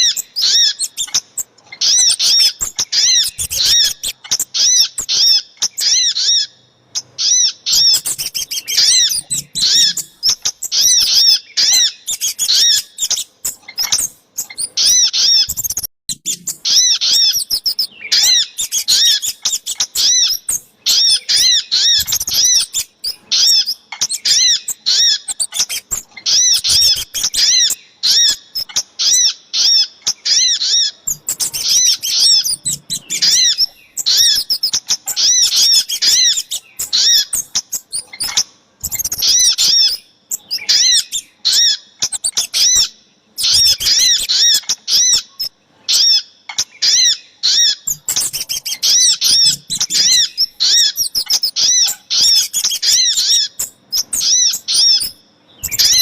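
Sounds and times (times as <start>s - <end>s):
short high bird chirps: 0.0s - 5.9s, 7.7s - 28.8s, 31.1s - 45.5s, 47.8s - 56.0s.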